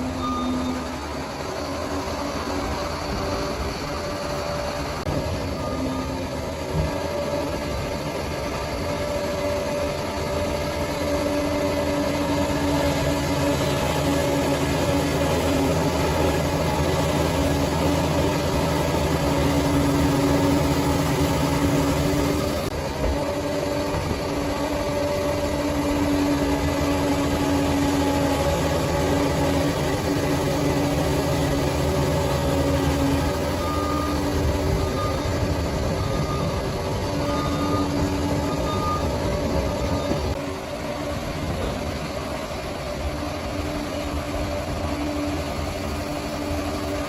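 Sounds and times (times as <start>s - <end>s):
bulldozer diesel engine running: 0.0s - 47.0s
thin steady whine: 0.0s - 47.0s.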